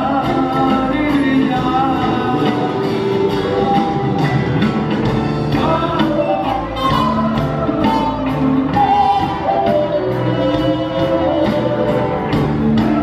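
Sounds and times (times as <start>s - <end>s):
person singing: 0.0s - 4.4s, 5.5s - 13.0s
guitar: 0.0s - 13.0s
steady drum beat: 0.0s - 13.0s
charango: 0.2s - 13.0s.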